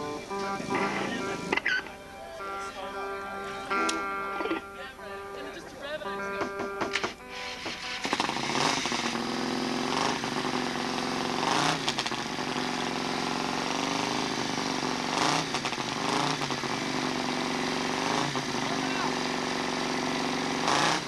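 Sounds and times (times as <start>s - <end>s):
motorcycle engine idling and revving: 0.0s - 2.0s, 6.0s - 21.0s.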